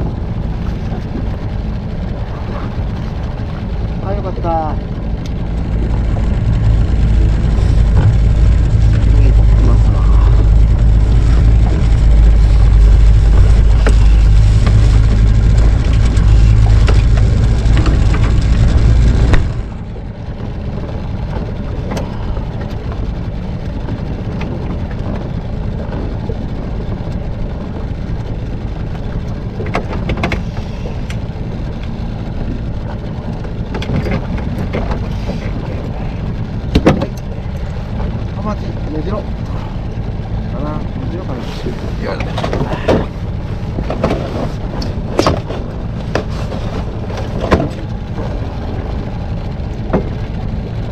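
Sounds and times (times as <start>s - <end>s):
outboard motor rumbling: 0.0s - 50.9s
water noise: 0.0s - 50.9s
wind noise: 0.0s - 50.9s.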